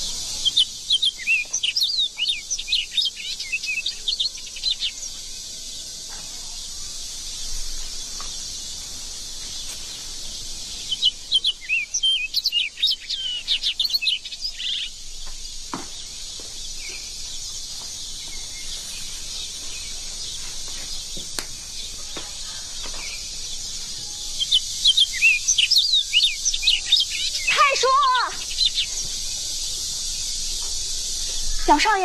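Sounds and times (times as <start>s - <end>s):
birds chirping: 0.0s - 32.0s
steady high hiss: 0.0s - 32.0s.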